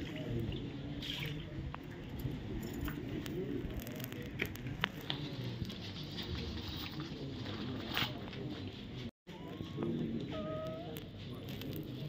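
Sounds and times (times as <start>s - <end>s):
background voices of people: 0.0s - 12.0s.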